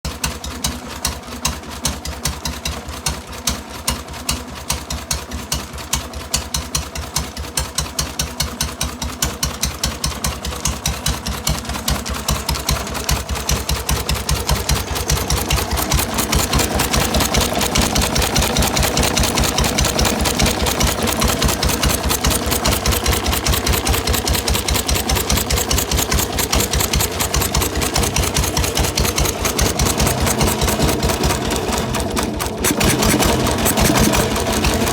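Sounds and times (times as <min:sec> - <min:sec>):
stationary engine running: 0:04.7 - 0:34.9.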